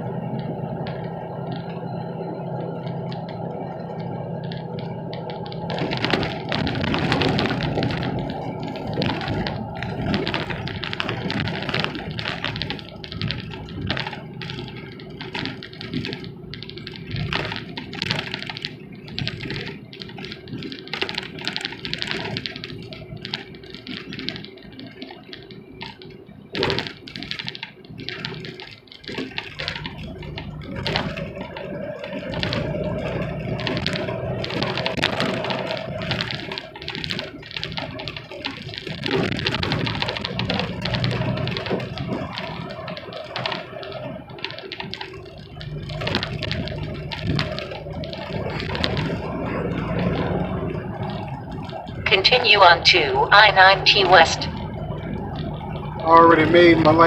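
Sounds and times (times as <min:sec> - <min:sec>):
cab rattling and clattering: 0:00.0 - 0:57.0
road noise: 0:00.0 - 0:57.0
truck engine drone: 0:00.0 - 0:57.0.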